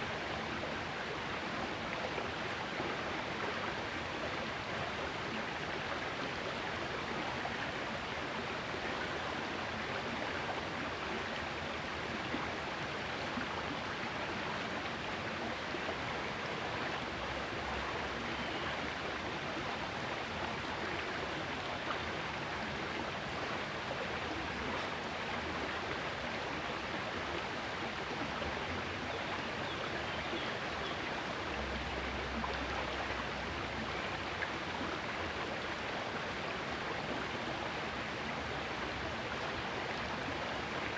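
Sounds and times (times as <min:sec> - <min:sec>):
small river flowing: 0:00.0 - 0:40.9.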